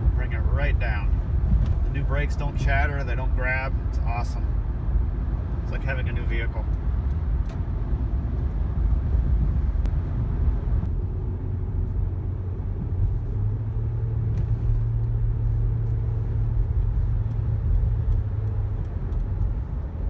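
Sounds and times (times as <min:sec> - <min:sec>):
car interior road rumble: 0:00.0 - 0:20.0
low engine hum: 0:00.0 - 0:20.0.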